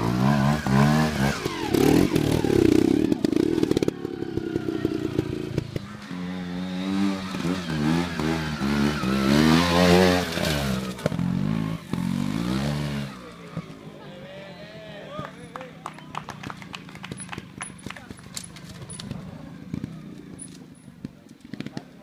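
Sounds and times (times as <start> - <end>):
motorcycle engine revving: 0.0 - 14.1, 16.6 - 22.0.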